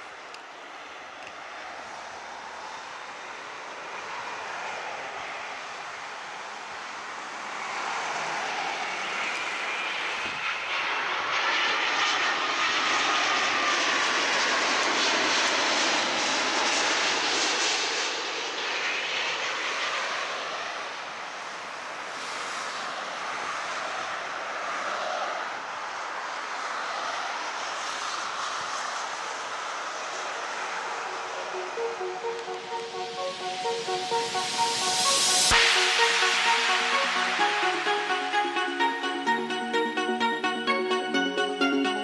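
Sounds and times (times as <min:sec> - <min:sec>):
jet engines whining overhead: 0:00.0 - 0:40.8.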